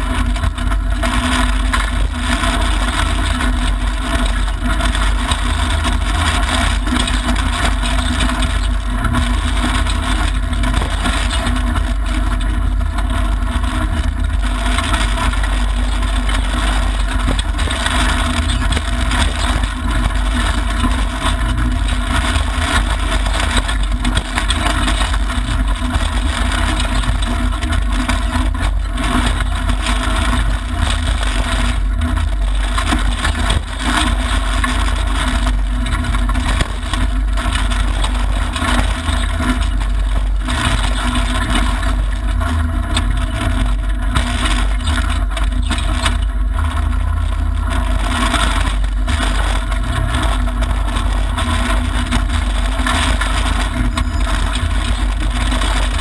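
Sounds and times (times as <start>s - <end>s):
car engine running hard: 0.0s - 56.0s
tyre and gravel noise: 0.0s - 56.0s.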